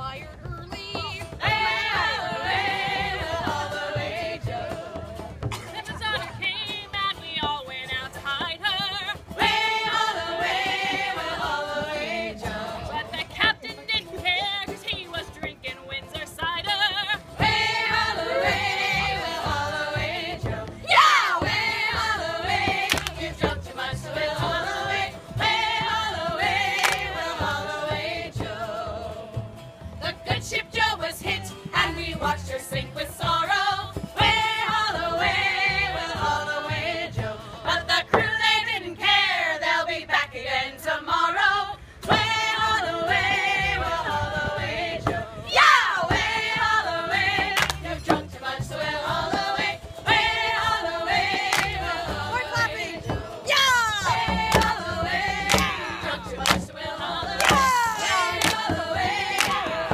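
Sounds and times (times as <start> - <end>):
frame drum beat: 0.0 - 38.6, 42.1 - 59.9
women singing in harmony: 0.6 - 59.9.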